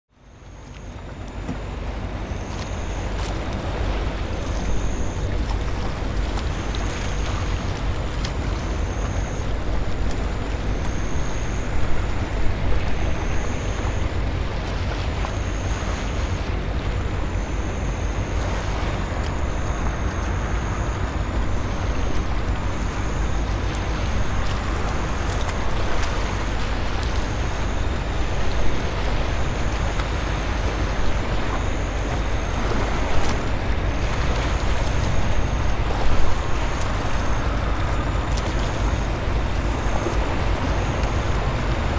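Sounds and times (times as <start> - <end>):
steady background wash: 0.1 - 41.9
wind rumbling on microphone: 0.9 - 41.9.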